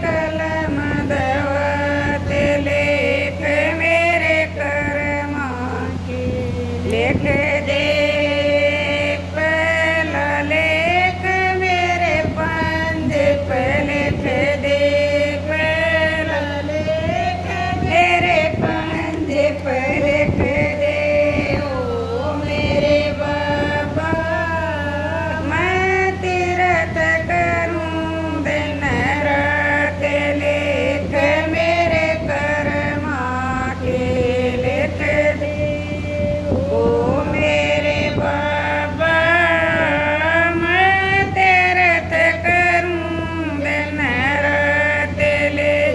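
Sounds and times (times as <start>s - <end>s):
steady low hum: 0.0s - 45.9s
women singing devotional song: 0.0s - 45.9s.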